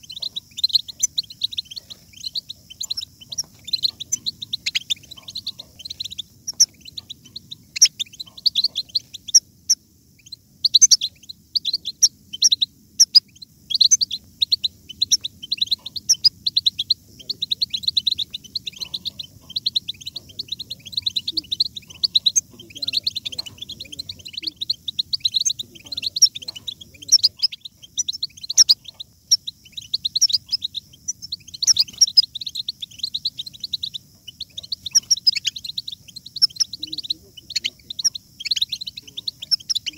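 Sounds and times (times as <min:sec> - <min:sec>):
goldfinches twittering and singing: 0:00.0 - 0:39.9.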